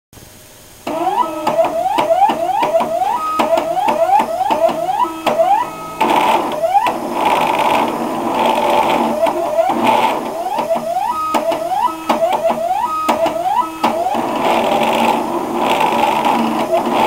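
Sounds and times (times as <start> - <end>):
clicks: 0.8 - 17.0
motors whirring buzz: 0.8 - 17.0
stepper motors whining: 0.8 - 17.0.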